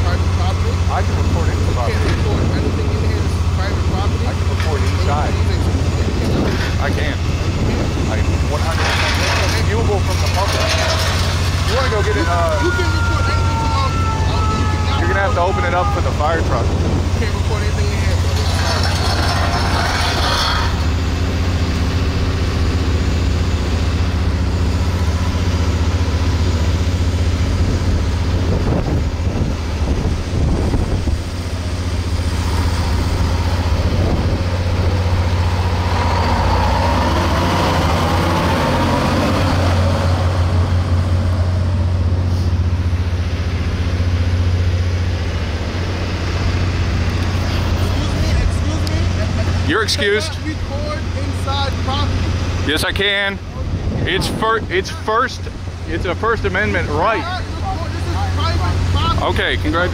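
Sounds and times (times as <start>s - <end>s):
large vehicle engine idling: 0.0s - 59.9s.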